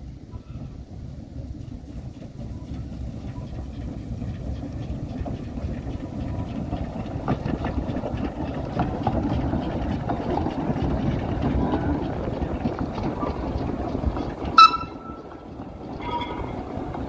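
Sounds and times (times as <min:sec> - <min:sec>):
steam train rumble: 0:00.0 - 0:17.0
wheels clanking on track: 0:00.0 - 0:17.0.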